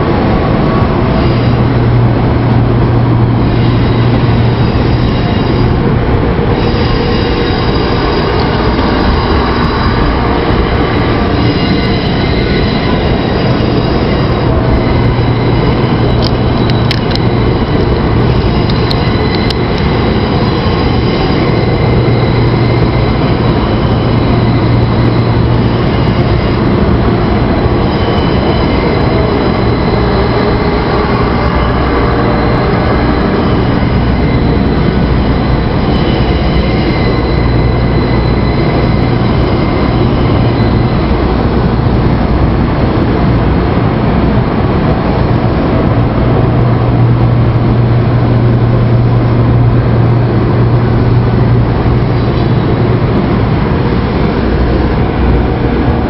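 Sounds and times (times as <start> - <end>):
high wheel squeal tones: 0.0 - 56.0
train running past: 0.0 - 56.0.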